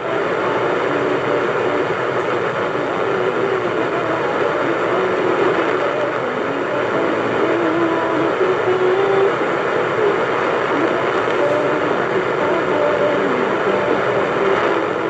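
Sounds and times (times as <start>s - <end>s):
faint radio tones: 0.0s - 15.0s
radio static hiss and rumble: 0.0s - 15.0s.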